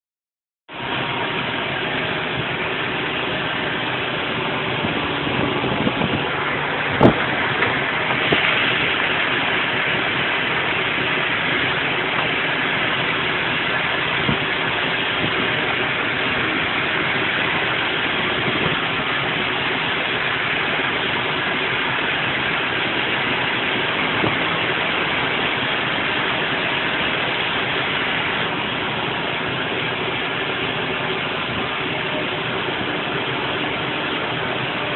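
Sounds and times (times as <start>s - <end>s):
engine running: 0.7s - 34.9s.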